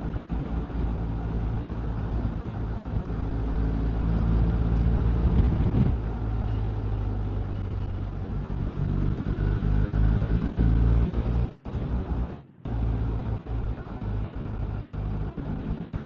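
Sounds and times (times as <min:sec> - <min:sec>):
motorcycle engine droning: 0:00.0 - 0:16.0
steady rushing noise: 0:00.0 - 0:16.0.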